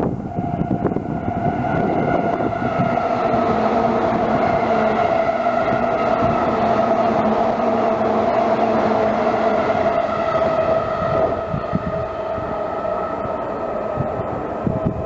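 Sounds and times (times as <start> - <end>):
electric train humming: 0.0 - 15.0
train rumbling noise: 0.0 - 15.0.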